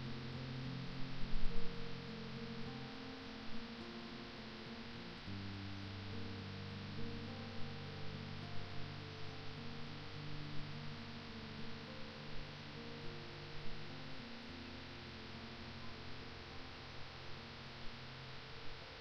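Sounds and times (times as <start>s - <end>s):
soft background music: 0.0s - 19.0s
steady hiss: 0.0s - 19.0s.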